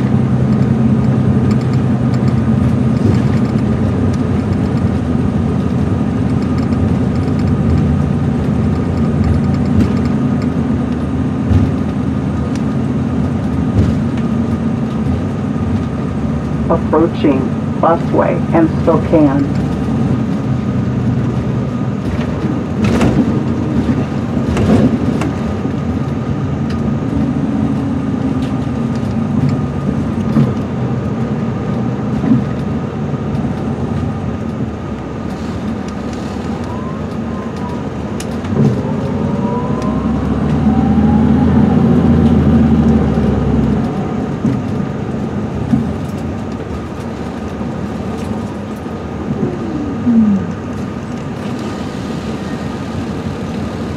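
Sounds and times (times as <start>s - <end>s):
coach diesel engine running: 0.0s - 53.9s
road noise: 0.0s - 53.9s.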